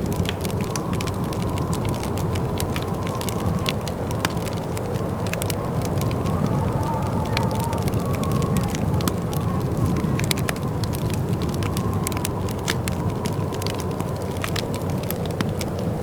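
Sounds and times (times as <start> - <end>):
sharp pops and snaps: 0.0 - 16.0
wood fire crackling: 0.0 - 16.0.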